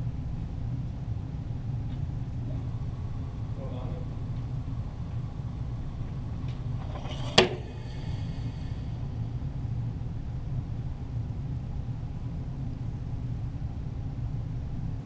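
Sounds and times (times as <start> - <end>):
low rumble: 0.6 - 7.0, 7.6 - 14.4.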